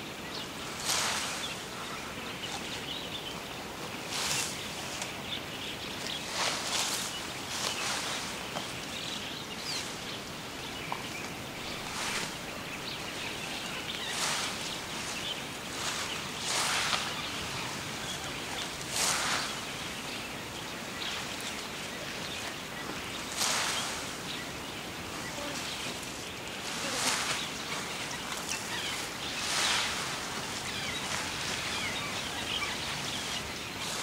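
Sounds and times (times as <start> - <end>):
steady outdoor hiss: 0.0 - 34.0
tall grass rustling: 0.0 - 34.0.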